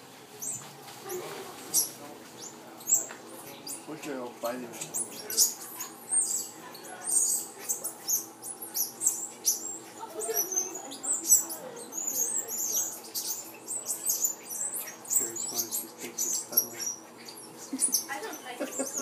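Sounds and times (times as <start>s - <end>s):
monkeys squeaking and chirping: 0.4s - 19.0s.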